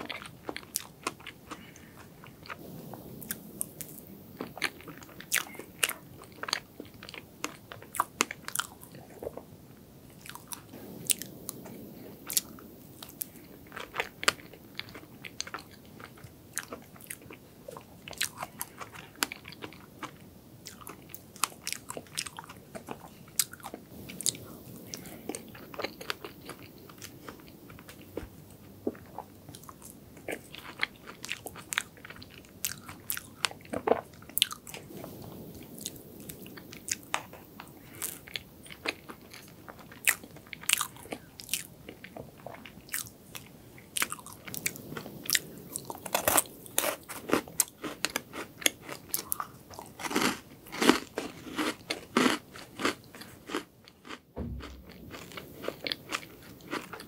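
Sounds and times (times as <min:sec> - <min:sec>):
chewing soft cake: 0:00.0 - 0:57.0.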